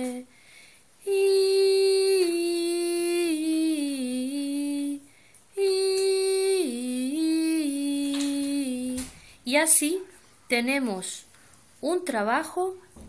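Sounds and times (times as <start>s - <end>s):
woman singing children's tune: 0.0s - 0.3s, 1.0s - 11.2s, 11.8s - 12.8s.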